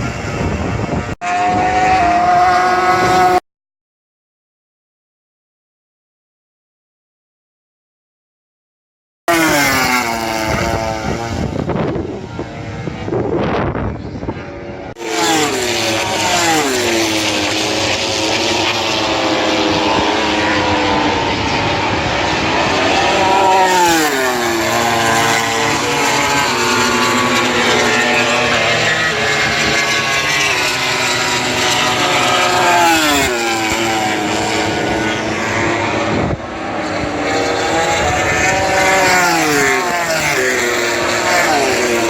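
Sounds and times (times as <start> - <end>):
racing motorcycles passing at speed: 0.0 - 3.4, 9.3 - 42.0.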